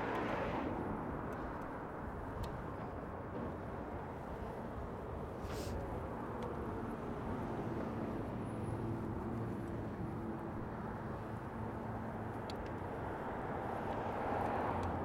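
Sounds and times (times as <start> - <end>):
faint vehicle engine hum: 0.0 - 15.0
road traffic rumble: 0.0 - 15.0.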